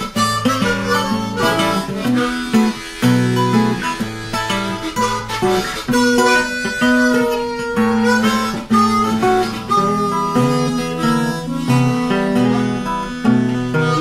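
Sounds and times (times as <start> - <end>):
harmonica melody: 0.0 - 14.0
plucked acoustic guitar: 0.0 - 14.0.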